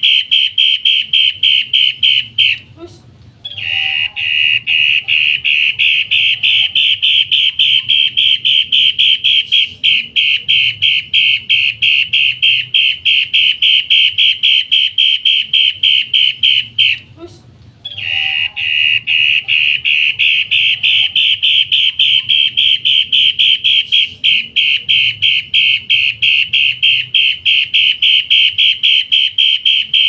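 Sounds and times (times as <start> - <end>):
bird calling harsh loud notes: 3.5 - 17.1, 17.9 - 29.4.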